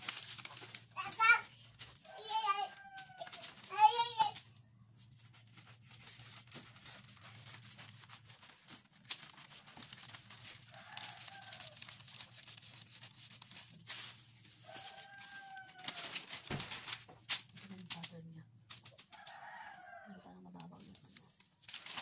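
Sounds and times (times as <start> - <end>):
paper rustling: 0.0 - 22.0
scissors snipping paper: 0.0 - 22.0.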